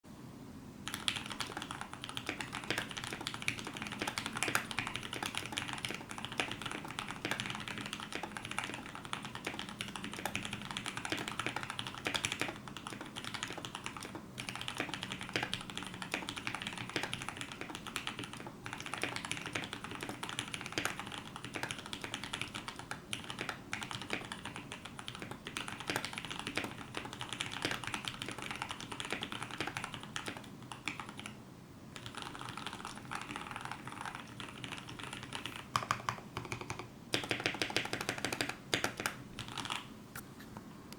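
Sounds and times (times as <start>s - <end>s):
mechanical keyboard typing: 0.8s - 31.4s, 32.0s - 39.9s.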